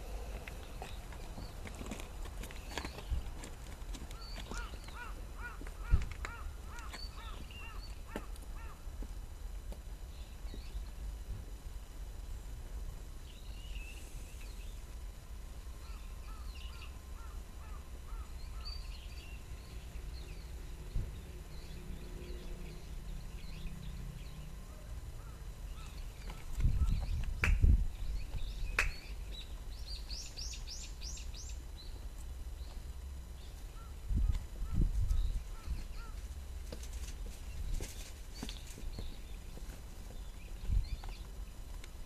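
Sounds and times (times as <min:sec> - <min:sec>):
birds chirping: 0:00.0 - 0:08.8, 0:15.7 - 0:36.3, 0:37.3 - 0:41.6
low steady rumble: 0:00.0 - 0:42.0.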